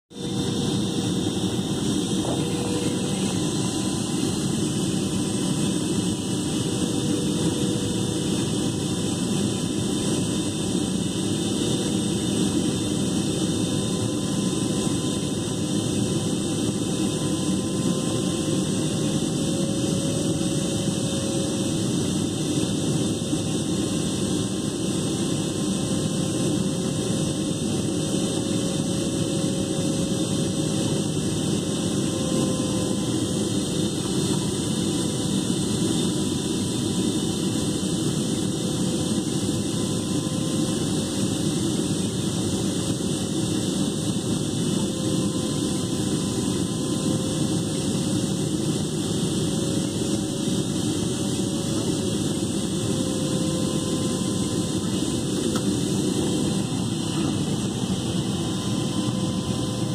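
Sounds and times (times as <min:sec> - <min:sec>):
airplane cabin engine roar: 0:00.0 - 0:59.9.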